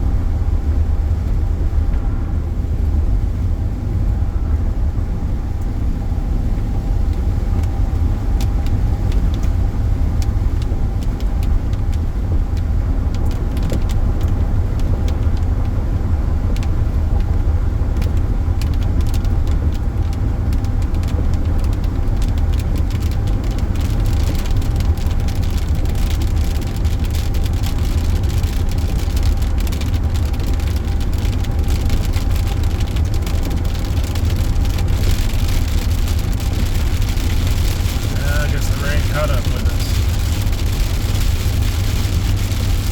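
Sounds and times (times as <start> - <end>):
car road and engine rumble: 0.0 - 42.9
raindrops ticking on car: 0.3 - 42.9.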